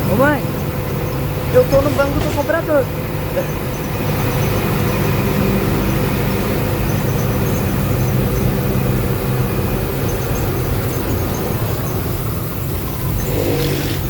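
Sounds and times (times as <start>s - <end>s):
bus diesel engine drone: 0.0s - 14.0s
differential roaring: 0.0s - 14.0s.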